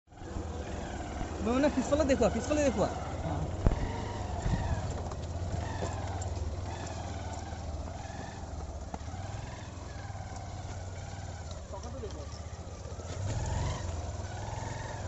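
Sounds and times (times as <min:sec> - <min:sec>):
motorcycle engine running: 0:00.1 - 0:15.0.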